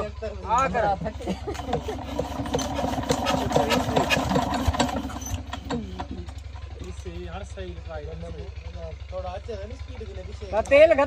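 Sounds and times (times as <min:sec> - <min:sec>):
diesel engine clattering: 0:00.0 - 0:11.0.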